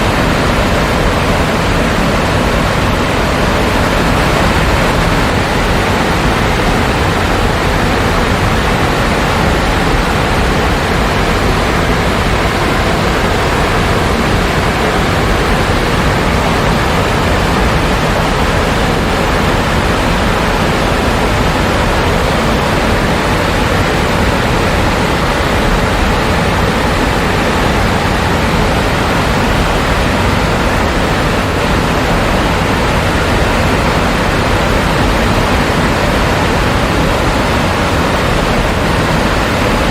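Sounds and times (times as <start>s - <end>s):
loud rush of waterfall: 0.0s - 39.9s.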